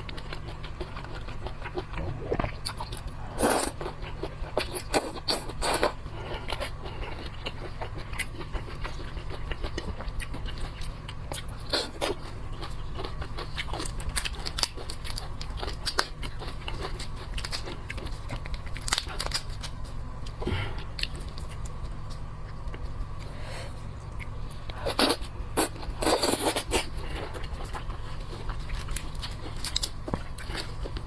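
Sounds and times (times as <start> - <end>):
low hum: 0.0 - 31.0
person chewing crunchy seafood: 0.0 - 31.0.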